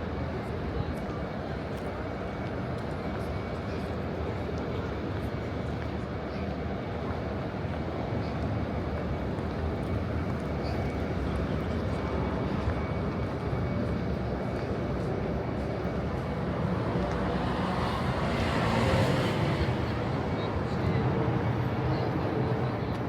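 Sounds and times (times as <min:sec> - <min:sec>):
city ambience rumble: 0:00.0 - 0:23.0.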